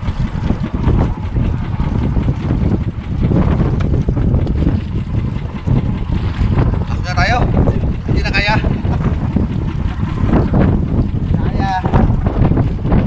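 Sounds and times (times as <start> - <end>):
water noise: 0.0 - 13.0
wind buffeting microphone: 0.0 - 13.0.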